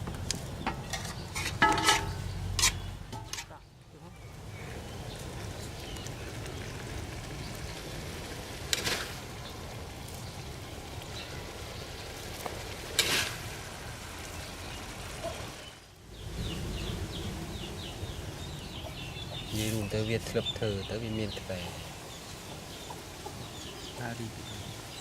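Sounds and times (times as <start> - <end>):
food sizzling in hot oil: 4.3 - 25.0.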